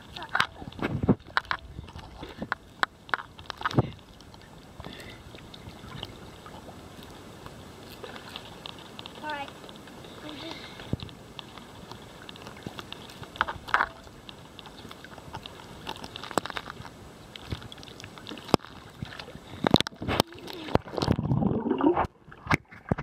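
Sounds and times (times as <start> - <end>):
water gurgling: 0.0 - 23.0
water lapping against camera: 0.0 - 23.0.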